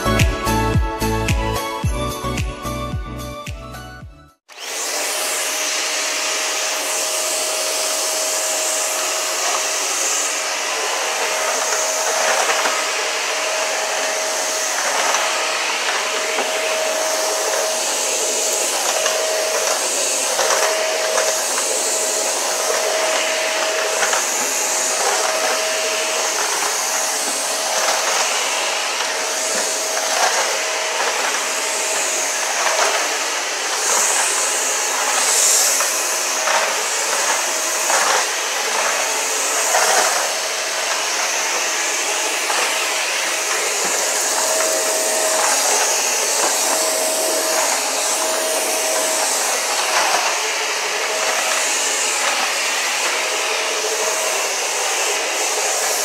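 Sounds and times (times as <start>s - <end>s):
vacuum cleaner running: 0.0s - 3.0s, 4.4s - 56.0s.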